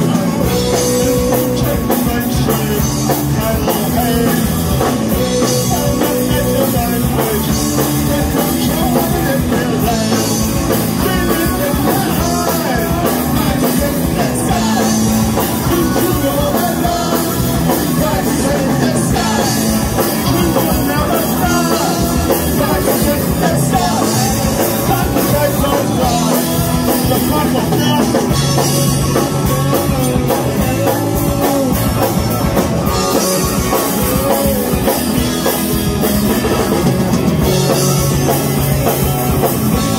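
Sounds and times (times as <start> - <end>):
bass guitar: 0.0 - 39.9
distorted electric guitars: 0.0 - 39.9
drum kit: 0.0 - 39.9
lead vocalist singing: 0.0 - 39.9.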